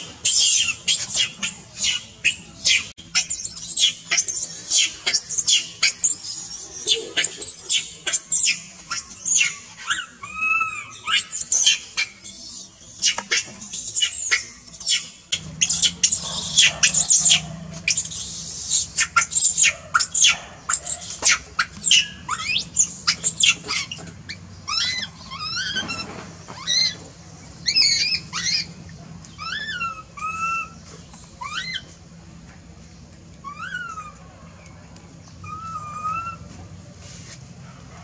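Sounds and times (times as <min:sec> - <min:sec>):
baby monkey screaming: 0:00.0 - 0:32.0, 0:33.4 - 0:34.2, 0:35.4 - 0:36.5.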